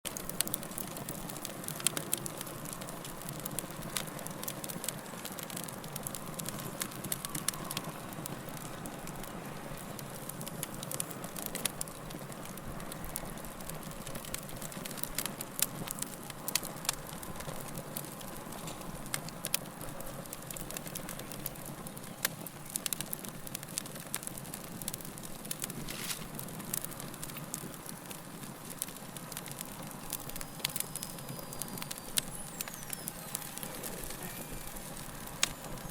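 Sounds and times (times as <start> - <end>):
fire crackling and popping: 0.1 - 35.9.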